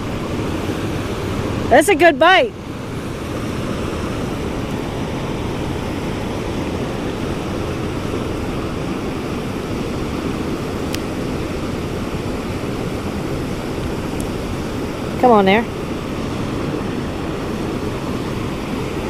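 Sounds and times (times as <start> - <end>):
water rushing over dam: 0.0 - 19.0.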